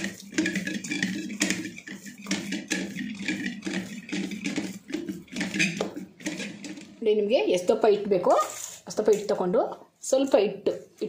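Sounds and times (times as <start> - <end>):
hands kneading dough in steel bowl: 0.0 - 10.5.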